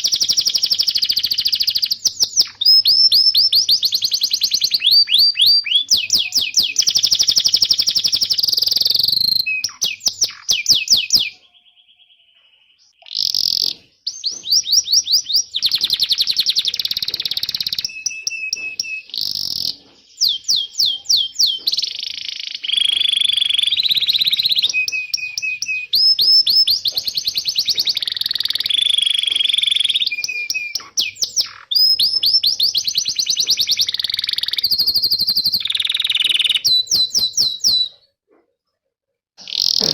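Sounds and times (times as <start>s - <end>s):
canary singing trills: 0.0s - 38.2s, 39.4s - 39.9s.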